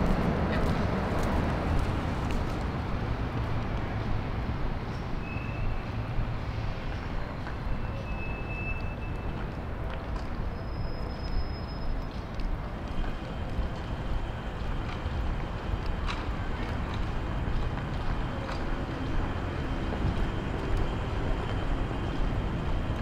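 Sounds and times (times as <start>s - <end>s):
rumble of passing vehicles: 0.0s - 23.0s.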